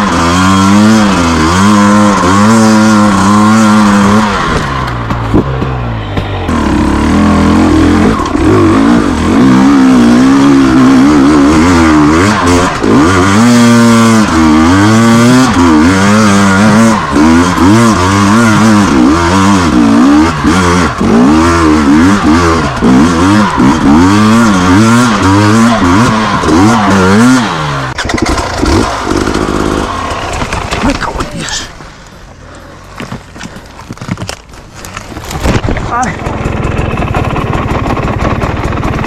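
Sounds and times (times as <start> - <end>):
motorcycle engine revving: 0.0 - 33.5, 34.8 - 39.0.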